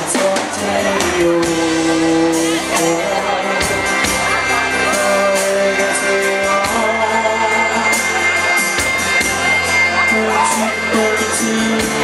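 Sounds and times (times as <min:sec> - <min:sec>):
accordion: 0:00.0 - 0:12.0
acoustic guitar: 0:00.0 - 0:12.0
bass guitar: 0:00.0 - 0:12.0
drum kit with cymbal strokes: 0:00.0 - 0:12.0
man singing lead vocal: 0:00.0 - 0:12.0.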